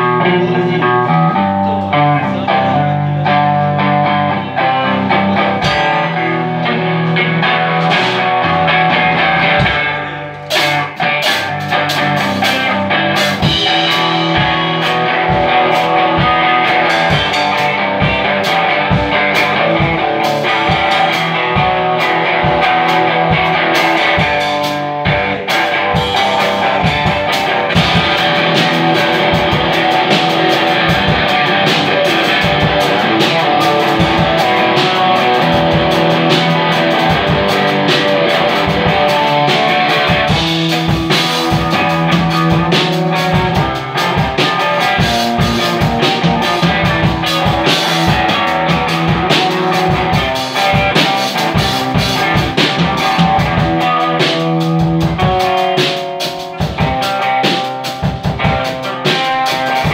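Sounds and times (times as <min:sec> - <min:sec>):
electric guitar chords: 0:00.0 - 0:59.9
live rock band playing: 0:00.0 - 0:59.9
drum beat of sharp hits: 0:05.4 - 0:06.3, 0:07.0 - 0:59.9.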